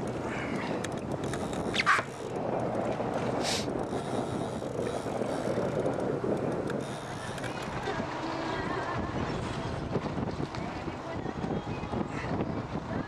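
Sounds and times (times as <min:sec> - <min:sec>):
sea noise: 0:00.0 - 0:11.2
wind: 0:00.0 - 0:13.0.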